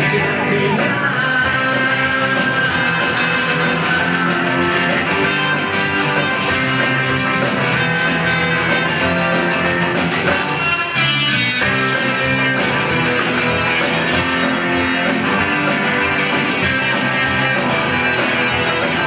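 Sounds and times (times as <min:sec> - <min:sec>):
electric guitar: 0:00.0 - 0:19.0
rock band playing: 0:00.0 - 0:19.0.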